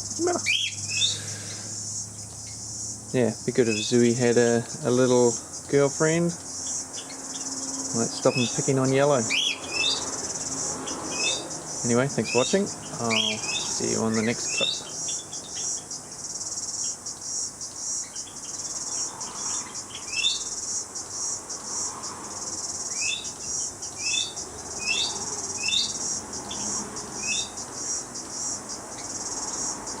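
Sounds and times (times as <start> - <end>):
bird chirps: 0.0 - 2.7, 6.4 - 20.6, 22.8 - 30.0
insects trilling: 0.0 - 30.0.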